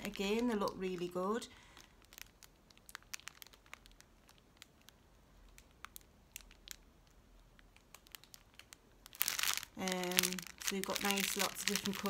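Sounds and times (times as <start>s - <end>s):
plastic pack crinkling: 0.0s - 12.0s.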